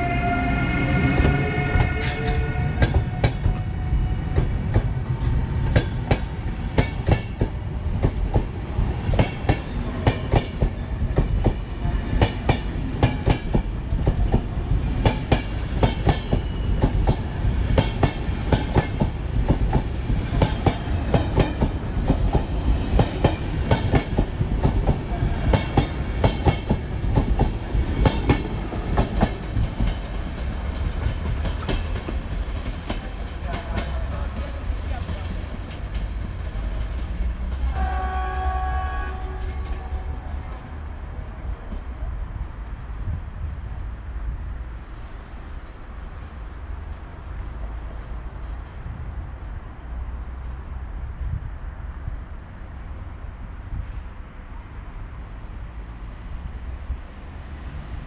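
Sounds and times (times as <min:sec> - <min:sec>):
low train rumble: 0:00.0 - 0:58.0.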